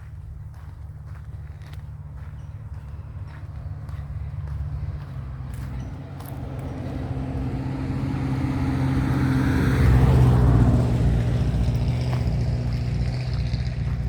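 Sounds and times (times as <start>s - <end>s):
engine low hum: 0.0s - 14.0s.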